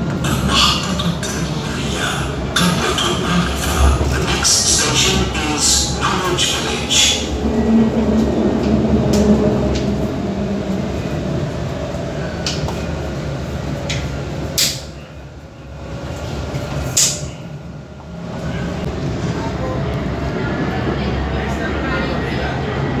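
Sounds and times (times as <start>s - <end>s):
tram running rumble: 0.0s - 23.0s.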